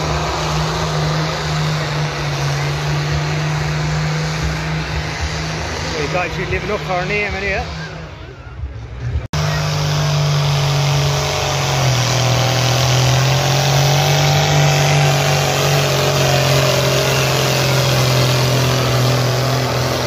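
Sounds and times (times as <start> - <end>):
diesel tractor engine at full power: 0.0 - 20.0.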